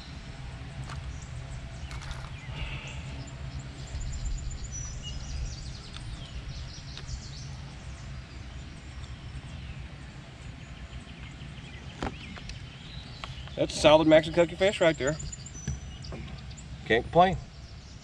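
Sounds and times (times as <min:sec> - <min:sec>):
birds chirping and whistling: 0:00.0 - 0:18.0
low outdoor rumble: 0:00.0 - 0:18.0.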